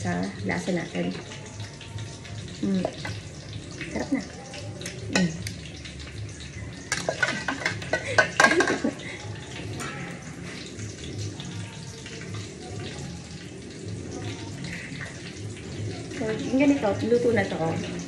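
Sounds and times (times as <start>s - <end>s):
food deep-frying in oil: 0.0s - 18.0s.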